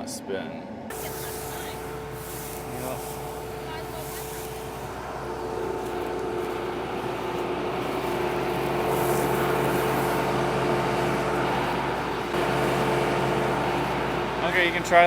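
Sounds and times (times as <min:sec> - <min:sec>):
combine harvester running: 0:00.9 - 0:15.0.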